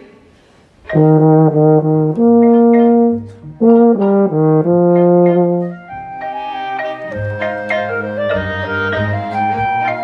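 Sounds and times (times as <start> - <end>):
euphonium playing: 0.8 - 10.0.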